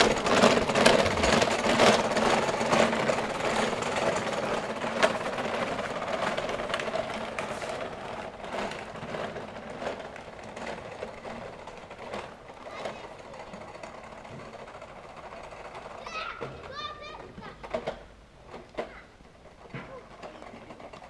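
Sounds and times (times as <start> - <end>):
small wheels clattering on paving: 0.0 - 21.0.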